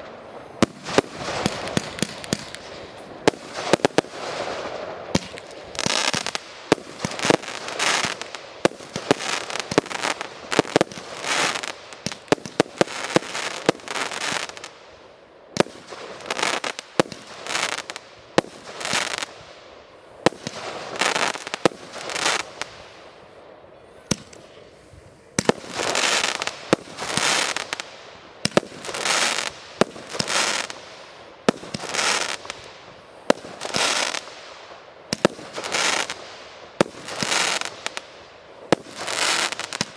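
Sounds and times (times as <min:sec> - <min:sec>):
fireworks bangs: 0:00.0 - 0:14.8, 0:15.6 - 0:19.6, 0:20.2 - 0:23.2, 0:24.0 - 0:39.9
fireworks hissing bursts: 0:00.0 - 0:39.9.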